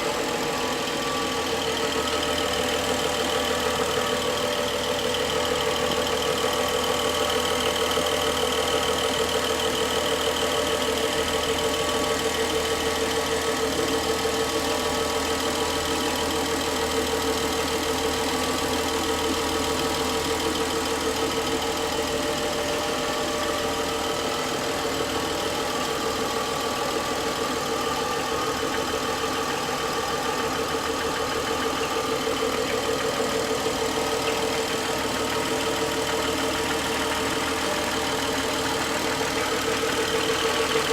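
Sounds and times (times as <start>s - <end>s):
car engine idling: 0.0s - 40.9s
engine knock: 0.0s - 40.9s.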